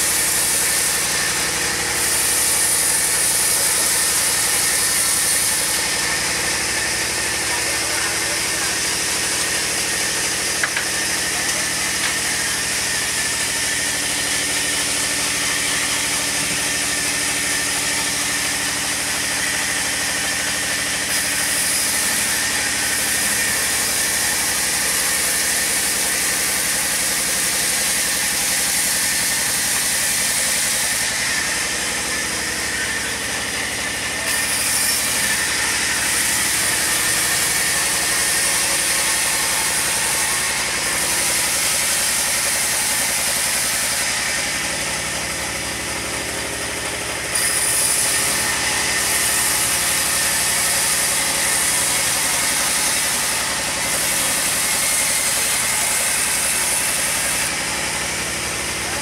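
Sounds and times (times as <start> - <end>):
saw blade hissing through log: 0.0 - 58.9.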